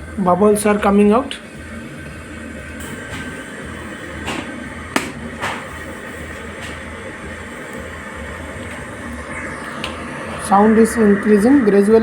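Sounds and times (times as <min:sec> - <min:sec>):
water boiling in kettle: 0:00.0 - 0:12.0.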